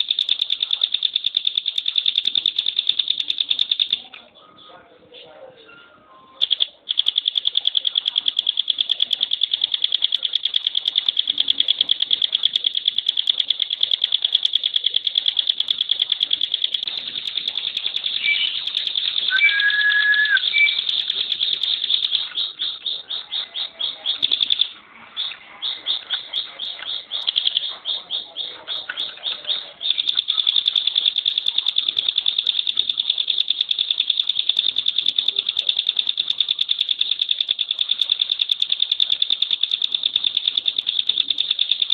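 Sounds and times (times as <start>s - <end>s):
bird rattling trill: 0.0s - 4.0s, 6.4s - 23.3s, 26.1s - 41.9s.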